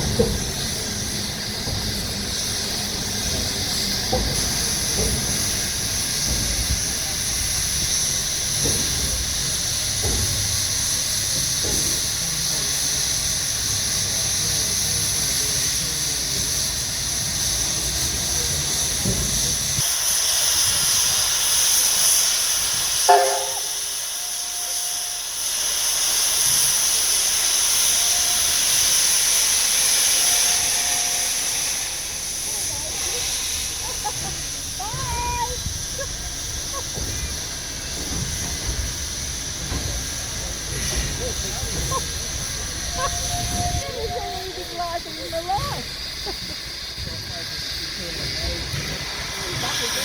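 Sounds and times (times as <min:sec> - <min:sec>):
steam locomotive hissing: 0:00.0 - 0:50.0.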